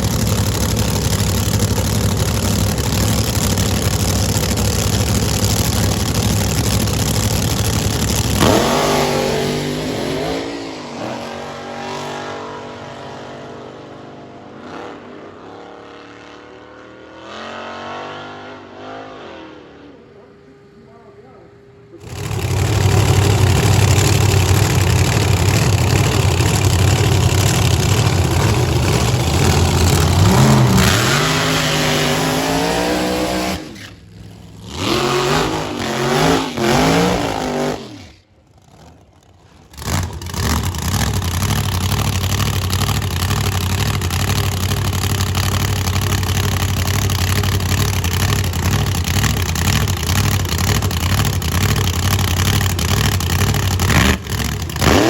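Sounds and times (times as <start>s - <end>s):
racing car engine revving: 0.0s - 20.2s, 22.0s - 55.0s.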